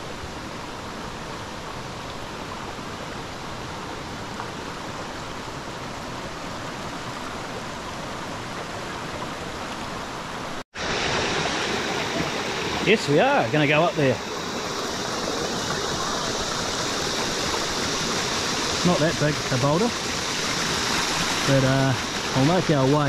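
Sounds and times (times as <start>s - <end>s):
creek water running over rocks: 0.0s - 23.0s.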